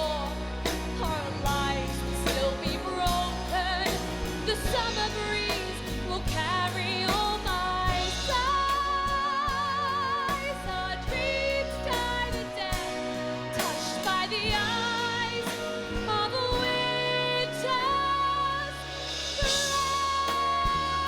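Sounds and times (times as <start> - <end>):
band accompaniment: 0.0 - 21.0
woman singing with vibrato: 0.0 - 21.0.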